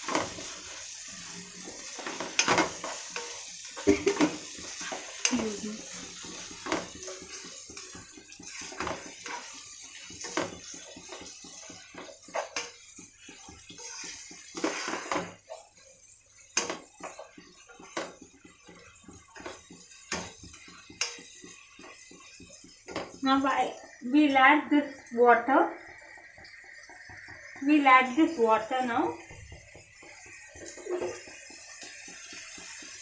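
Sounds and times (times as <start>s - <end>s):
spatula scraping a pan: 0.0s - 23.2s, 29.4s - 33.0s
vegetables sizzling in oil: 0.0s - 33.0s.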